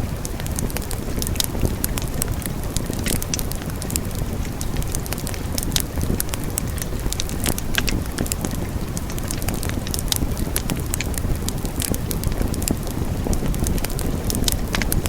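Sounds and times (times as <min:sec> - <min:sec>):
burning logs crackling and popping: 0:00.0 - 0:15.0
low rush of flames: 0:00.0 - 0:15.0.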